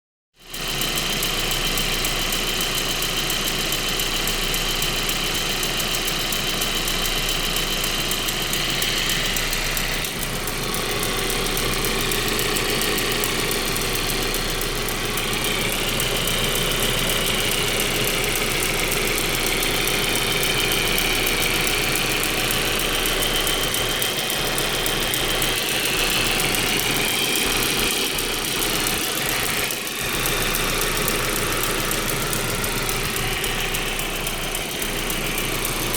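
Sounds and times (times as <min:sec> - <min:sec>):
engine ticking: 0:00.4 - 0:35.9
car engine idling: 0:00.5 - 0:35.9.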